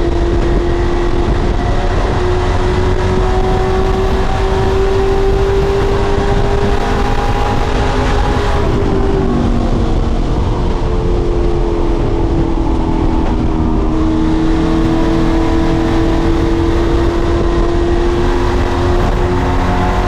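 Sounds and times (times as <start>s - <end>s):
truck engine running hard: 0.0s - 20.0s.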